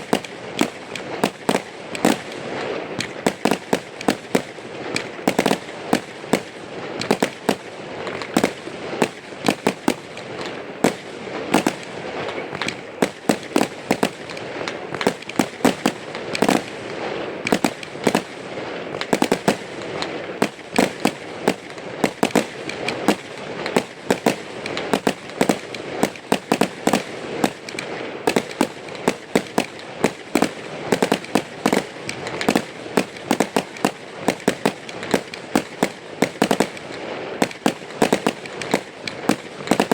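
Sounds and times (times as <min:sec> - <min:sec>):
fireworks bursting: 0:00.0 - 0:39.9
fireworks crackling: 0:00.0 - 0:39.9.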